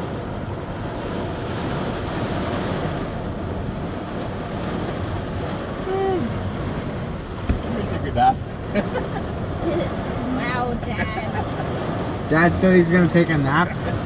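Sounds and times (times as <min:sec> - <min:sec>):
gusting wind: 0:00.0 - 0:14.0
heavy rain: 0:00.0 - 0:14.0.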